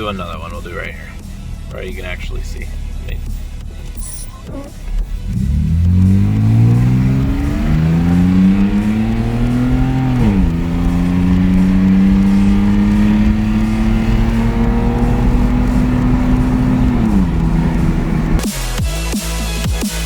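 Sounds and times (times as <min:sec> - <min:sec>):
car engine accelerating: 0:00.0 - 0:18.8.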